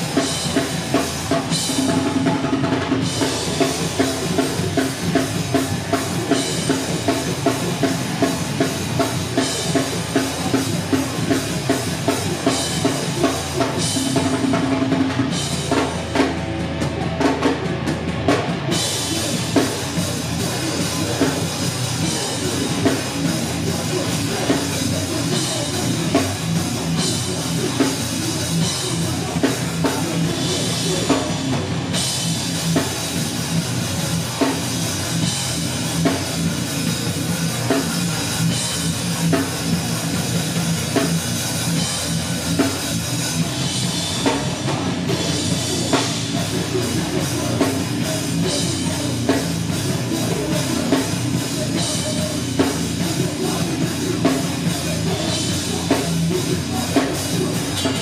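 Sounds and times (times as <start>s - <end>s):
heavy rock band playing: 0.0s - 58.0s
pounding drum kit: 0.0s - 58.0s.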